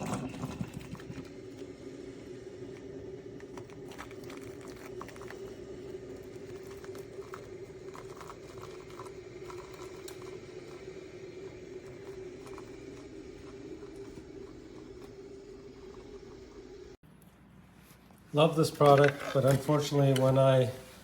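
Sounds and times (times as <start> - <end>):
coffee maker humming: 0.0 - 17.3, 17.9 - 21.0.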